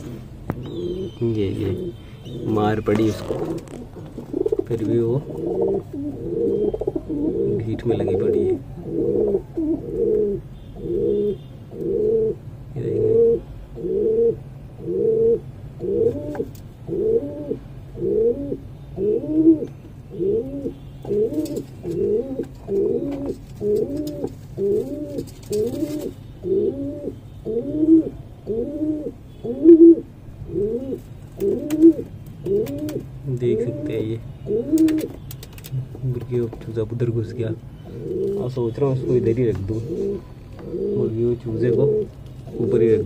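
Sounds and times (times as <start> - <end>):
pigeon cooing: 0.0 - 35.2, 37.8 - 42.9.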